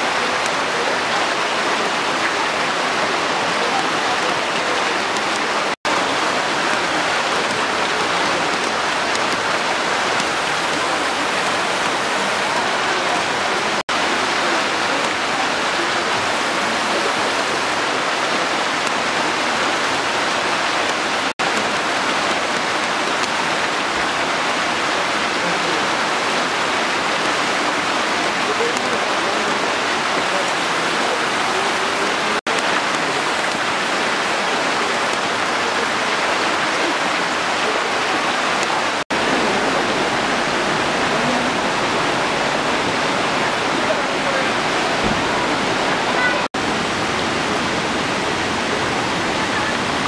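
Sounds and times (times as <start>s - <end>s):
floodwater rushing over rocks: 0.0s - 50.0s
steady rain: 0.0s - 50.0s.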